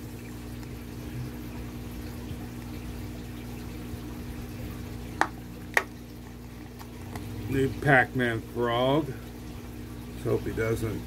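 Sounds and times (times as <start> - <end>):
water bubbling: 0.0 - 10.2
aquarium pump hum: 0.0 - 11.0.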